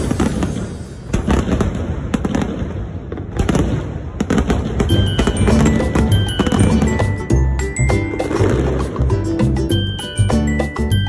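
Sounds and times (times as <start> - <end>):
fireworks bangs and crackles: 0.0 - 9.9.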